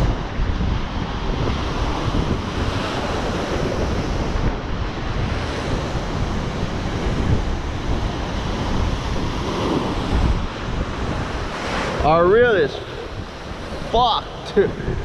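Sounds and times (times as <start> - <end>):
wind buffeting microphone: 0.0 - 15.0
surf breaking on rocks: 1.6 - 15.0.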